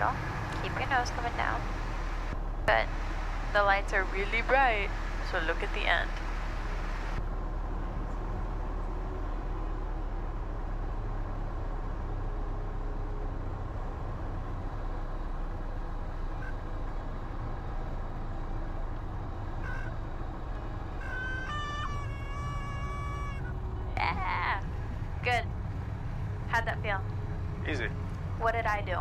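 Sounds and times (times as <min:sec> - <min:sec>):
airplane engine idling: 0:00.0 - 0:08.1, 0:08.9 - 0:29.0.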